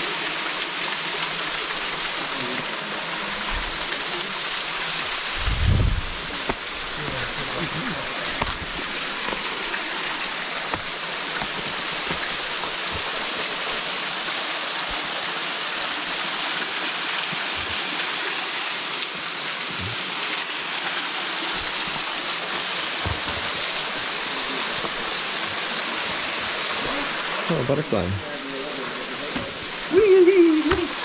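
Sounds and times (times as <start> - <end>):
waterfall rushing into a pool: 0.0 - 31.0.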